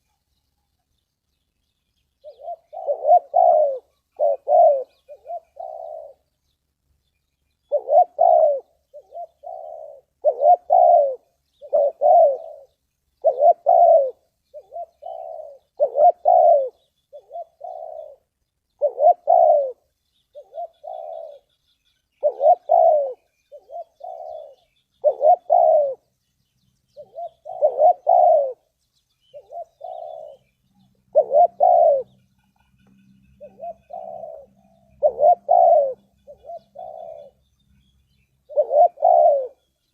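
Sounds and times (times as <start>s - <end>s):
dove cooing: 2.2s - 6.4s, 7.6s - 26.1s, 26.9s - 37.5s, 38.4s - 39.7s.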